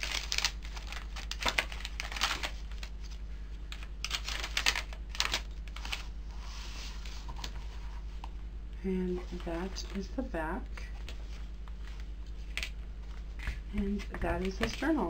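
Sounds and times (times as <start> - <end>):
paper pages rustling: 0.0 - 8.3, 10.8 - 15.0
low steady hum: 0.0 - 15.0.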